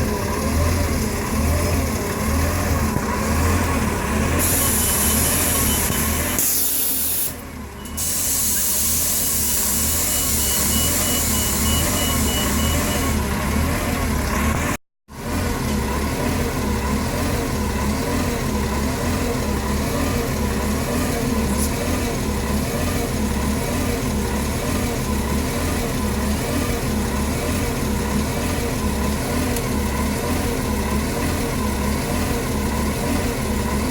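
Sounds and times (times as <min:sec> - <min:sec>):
bus engine idling roughly: 0:00.0 - 0:33.9.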